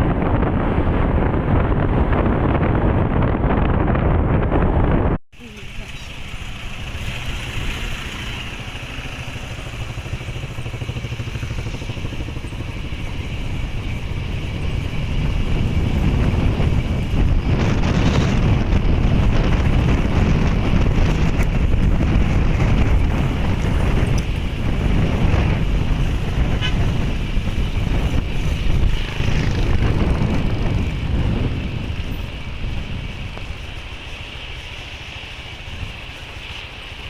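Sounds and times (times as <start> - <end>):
wind buffeting microphone: 0.0 - 5.2, 5.8 - 37.0
vehicle engine running: 5.4 - 37.0.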